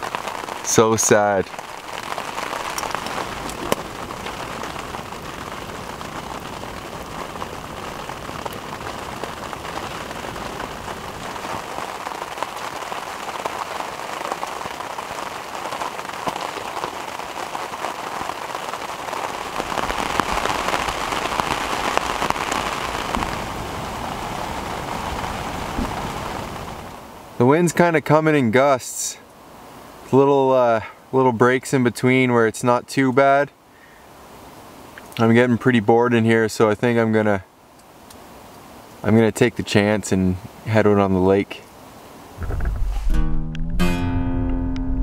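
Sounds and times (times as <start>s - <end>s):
steady rain falling: 0.0s - 43.4s.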